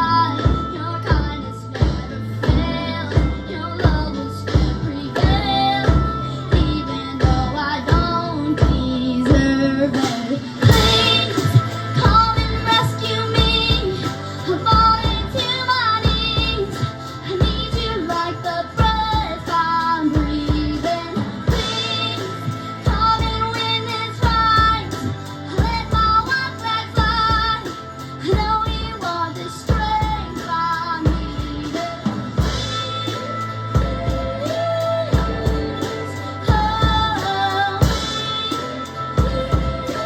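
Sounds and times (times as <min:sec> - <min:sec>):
accompaniment with steady beat: 0:00.0 - 0:40.0
high voice singing with vibrato: 0:00.0 - 0:40.0.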